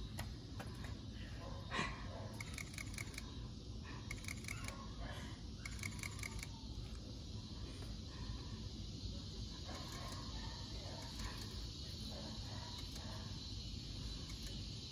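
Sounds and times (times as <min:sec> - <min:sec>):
low outdoor background: 0:00.0 - 0:14.9.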